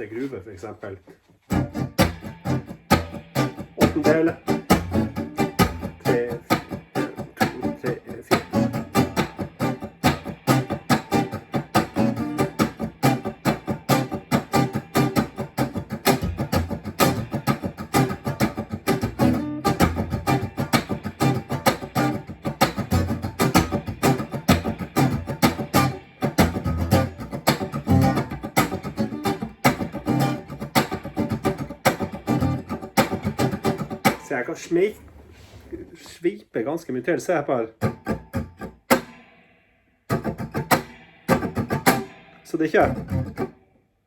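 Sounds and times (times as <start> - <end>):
guitar strumming: 1.4 - 34.8, 37.8 - 43.7.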